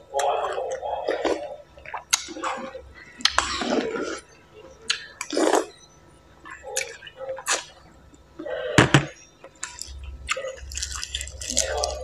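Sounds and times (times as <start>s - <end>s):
wet chewing: 0.1s - 5.7s, 6.5s - 8.2s, 9.4s - 12.0s.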